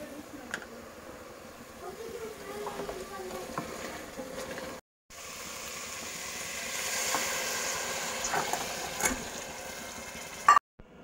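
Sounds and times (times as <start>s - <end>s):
food sizzling in a frying pan: 1.3s - 10.6s.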